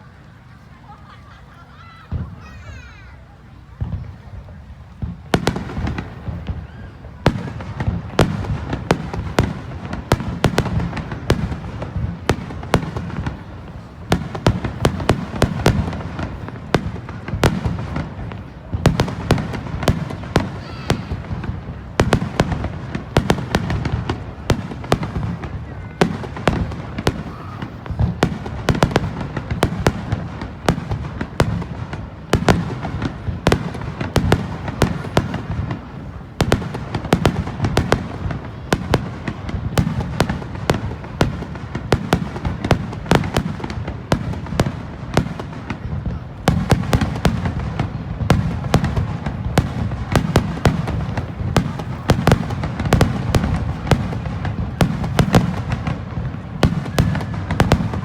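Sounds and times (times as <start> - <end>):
firework bangs and crackles: 0.0 - 58.0.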